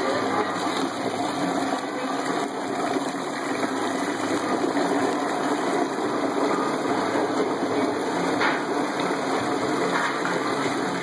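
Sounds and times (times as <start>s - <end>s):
garbage disposal running: 0.0s - 11.0s
liquid churning and gushing: 0.0s - 11.0s.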